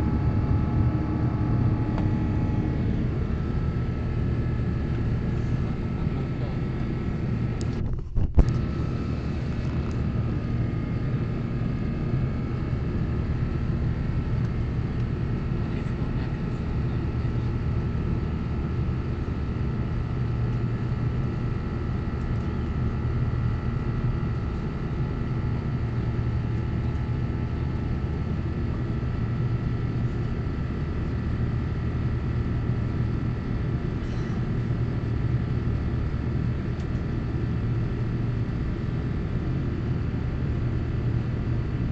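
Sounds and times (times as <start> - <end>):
airplane cabin engine drone: 0.0 - 41.9
engine fan whine: 0.0 - 41.9.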